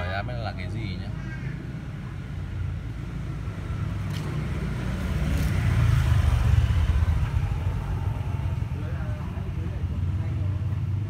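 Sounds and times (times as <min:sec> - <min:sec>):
road traffic rumble: 0:00.0 - 0:11.0
vehicle passing: 0:00.0 - 0:11.0.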